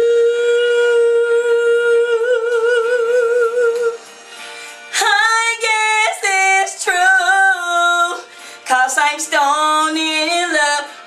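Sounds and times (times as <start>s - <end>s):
woman singing: 0.0s - 4.1s, 4.9s - 11.0s.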